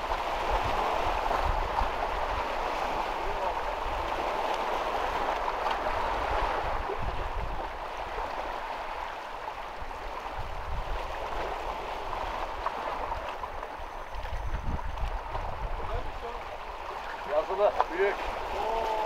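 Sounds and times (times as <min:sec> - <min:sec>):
wind rumbling on microphone: 0:00.0 - 0:17.4
waves gurgling against rocks: 0:00.0 - 0:19.0.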